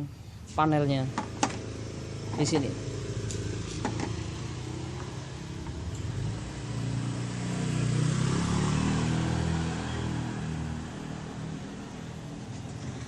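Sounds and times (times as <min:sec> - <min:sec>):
vehicle engine passing: 0:01.2 - 0:13.0.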